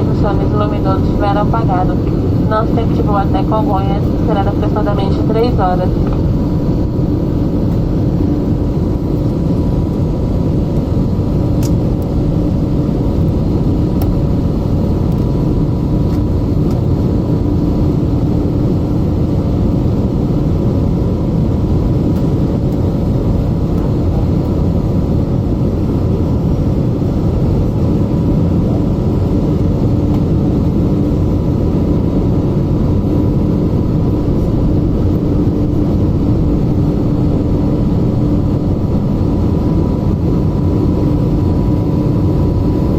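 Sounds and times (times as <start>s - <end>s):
airplane cabin drone: 0.0s - 42.9s
faint steady whine: 0.0s - 42.9s.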